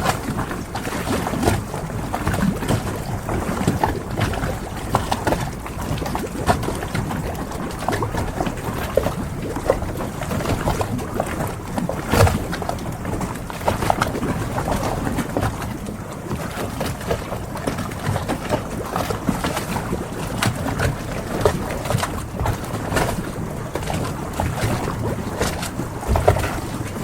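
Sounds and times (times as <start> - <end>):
water moving against boats: 0.0 - 27.0.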